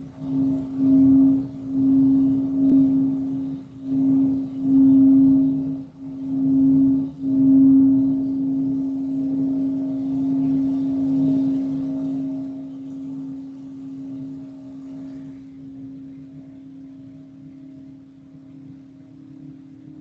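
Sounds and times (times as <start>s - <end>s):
singing bowl low tone: 0.0s - 20.0s.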